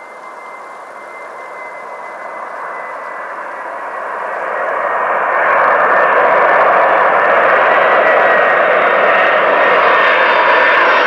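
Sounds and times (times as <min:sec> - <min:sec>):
jet engines rushing and whining: 0:00.0 - 0:11.0.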